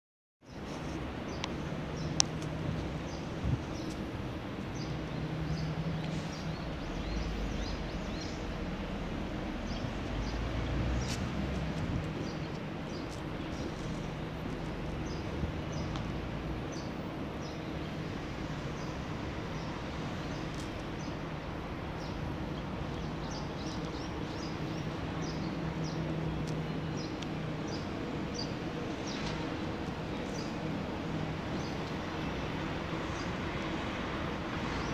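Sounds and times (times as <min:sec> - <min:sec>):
small birds chirping: 0:00.4 - 0:08.6, 0:09.5 - 0:33.4.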